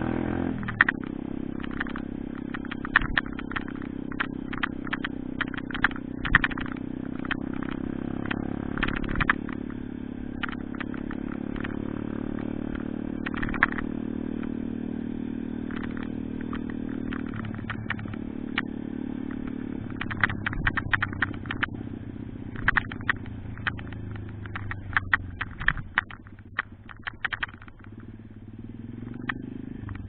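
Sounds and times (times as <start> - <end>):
small motorbike engine running: 0.0 - 30.0
rattling clicks: 0.6 - 14.8, 15.5 - 30.0.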